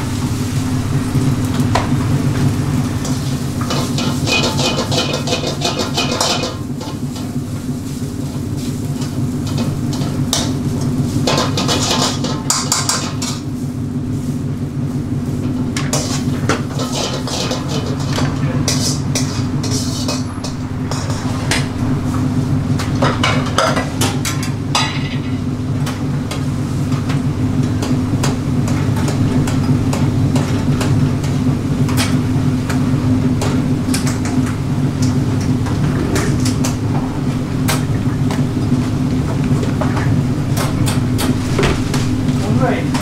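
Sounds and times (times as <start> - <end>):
busy kitchen drone: 0.0 - 43.0.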